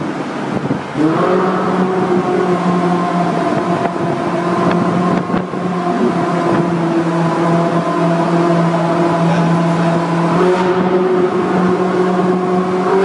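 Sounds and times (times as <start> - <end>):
car engine droning steadily: 0.0 - 13.0.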